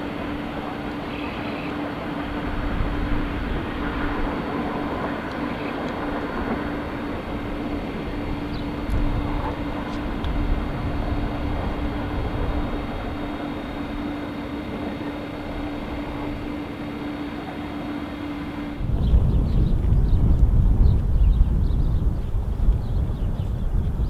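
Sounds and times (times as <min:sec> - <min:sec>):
distant train rumble: 0:00.0 - 0:24.0
low hum: 0:00.0 - 0:24.0.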